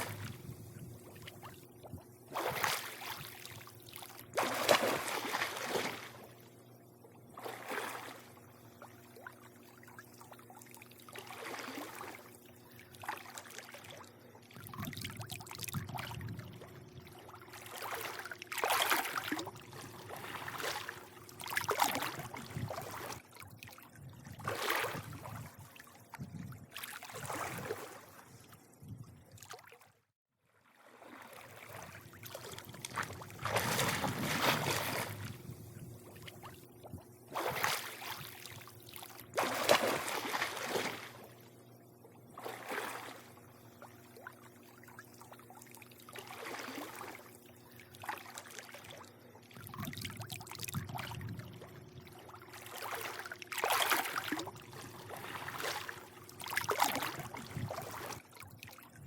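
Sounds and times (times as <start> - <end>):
steady low hum: 0.0 - 29.4, 31.2 - 59.0
pool water lapping: 0.0 - 59.0.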